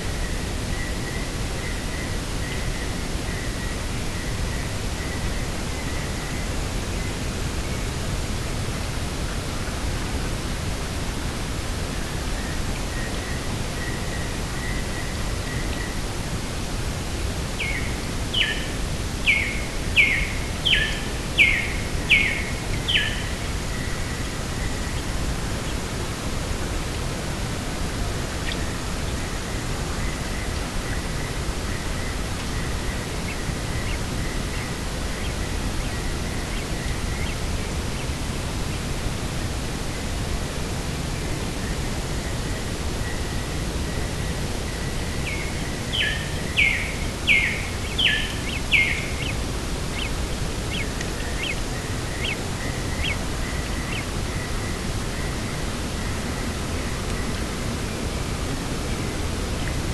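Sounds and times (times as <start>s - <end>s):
wind hiss: 0.0s - 59.9s.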